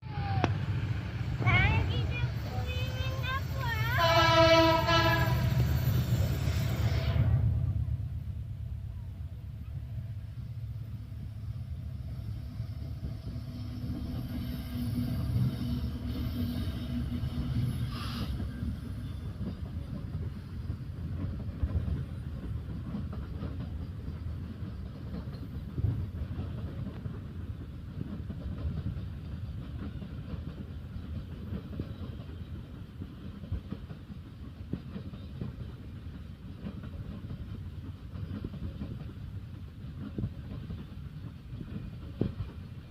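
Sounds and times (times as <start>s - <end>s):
train wheels clickety-clack on rails: 0.1s - 42.9s.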